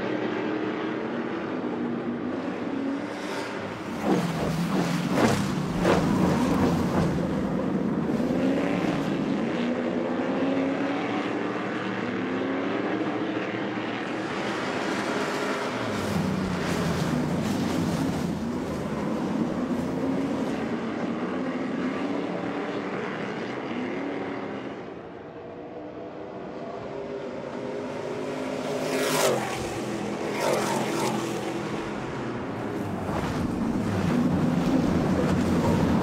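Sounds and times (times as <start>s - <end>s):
truck engines racing: 0.0s - 36.0s.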